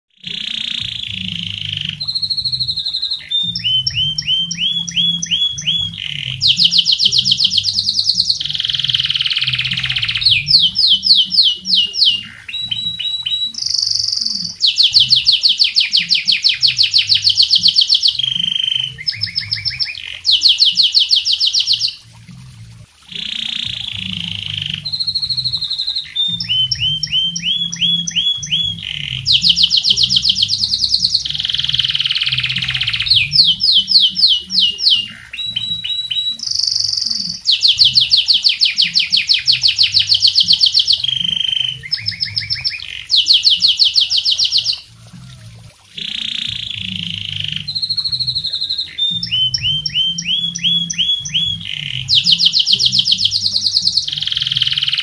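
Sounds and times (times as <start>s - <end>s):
canary singing: 0.1s - 22.0s, 23.1s - 44.9s, 46.0s - 55.0s.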